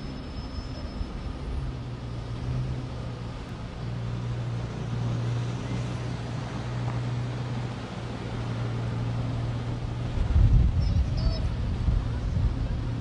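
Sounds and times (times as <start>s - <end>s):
car engine rumbling low: 0.0s - 13.0s.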